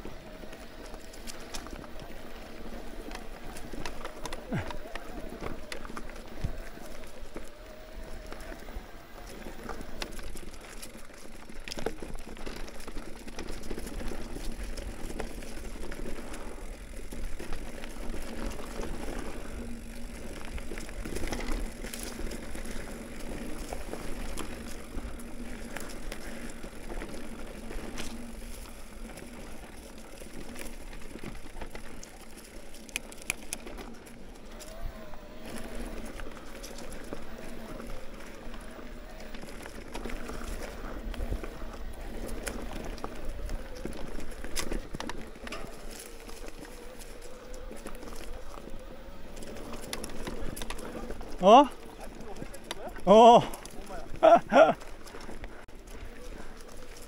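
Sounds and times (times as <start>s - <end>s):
bike rattling over bumps: 0.0s - 57.0s
bike tyres rolling on dirt: 0.0s - 57.0s.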